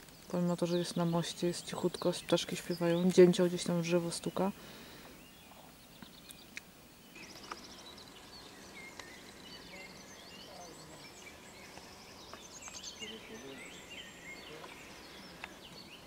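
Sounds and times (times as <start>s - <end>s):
songbirds trilling and chirping: 0.0s - 16.0s.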